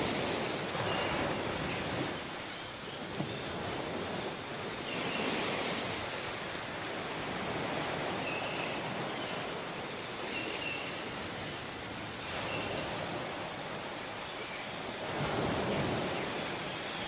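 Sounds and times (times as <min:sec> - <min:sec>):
waves washing on beach: 0:00.0 - 0:17.0.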